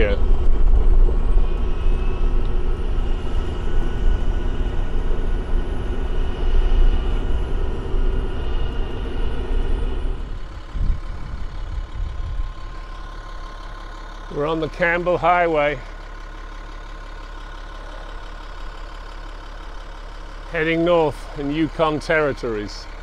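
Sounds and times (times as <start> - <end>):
truck diesel engine rumble: 0.0 - 23.0
tyres on gravel road: 0.0 - 23.0.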